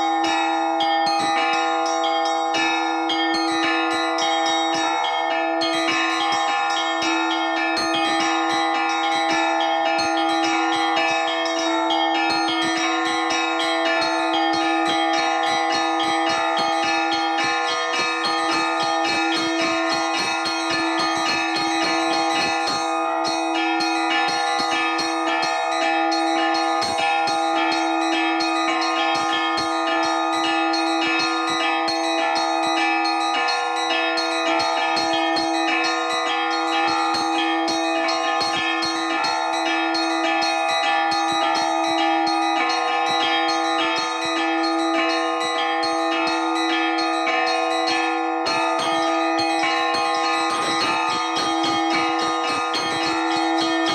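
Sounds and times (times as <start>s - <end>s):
deep bells ringing: 0.0s - 53.9s
small bells struck quickly: 0.0s - 53.9s.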